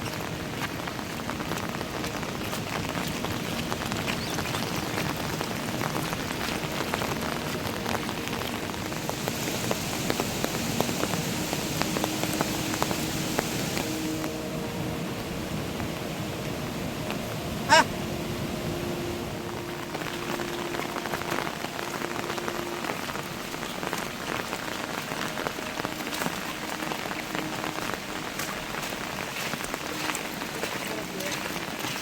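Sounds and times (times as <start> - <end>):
heavy rain hissing: 0.0 - 32.0
raindrops hitting close by: 0.0 - 32.0.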